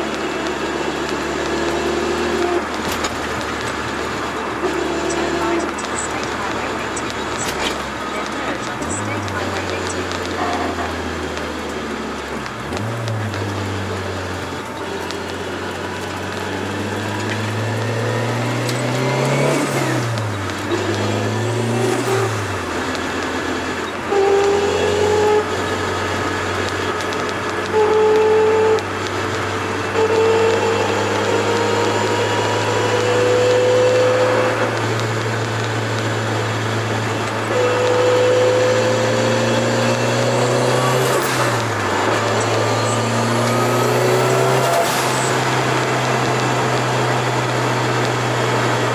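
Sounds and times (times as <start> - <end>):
car engine running while driving: 0.0 - 48.9.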